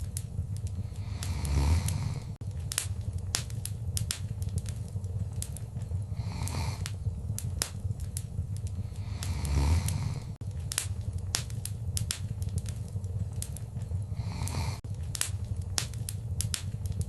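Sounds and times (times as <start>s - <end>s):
fire pops and snaps: 0.0s - 17.0s
low rumble of flames: 0.0s - 17.0s.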